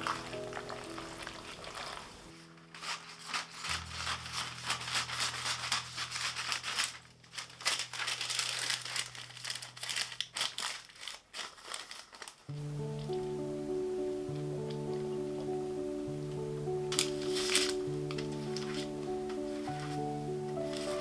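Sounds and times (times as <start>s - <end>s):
soft background music: 0.0s - 10.7s, 12.5s - 21.0s
baking paper crinkling: 0.0s - 13.5s, 16.4s - 21.0s.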